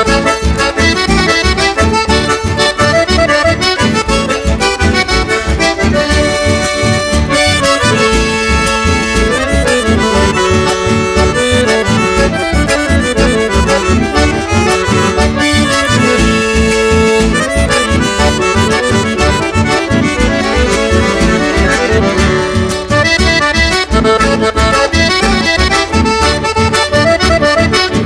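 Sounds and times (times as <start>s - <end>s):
accordion melody over steady beat: 0.0s - 28.0s.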